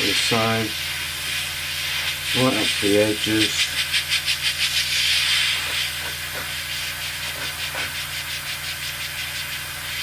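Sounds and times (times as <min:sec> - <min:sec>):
airbrush spraying hiss: 0:00.0 - 0:10.0.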